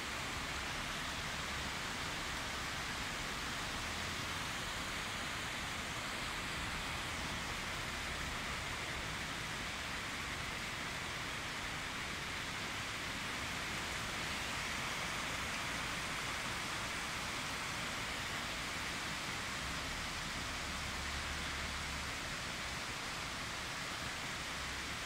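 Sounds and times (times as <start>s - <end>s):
heavy rain on pavement and cars: 0.0s - 25.0s.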